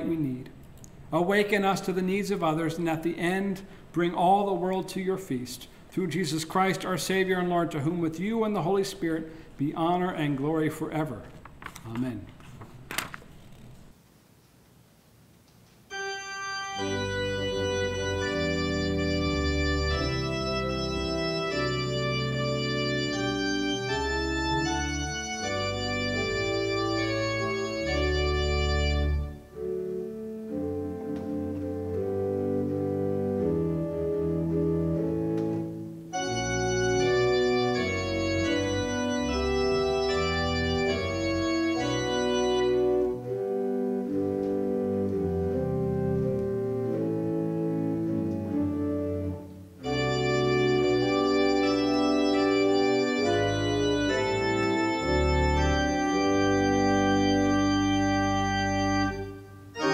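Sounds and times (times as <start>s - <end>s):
church organ chords: 0.0s - 11.1s, 15.9s - 59.9s.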